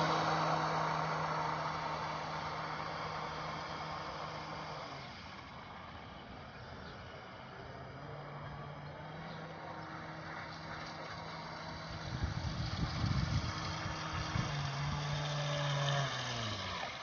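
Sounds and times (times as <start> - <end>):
electric propeller motors humming: 0.0 - 17.0.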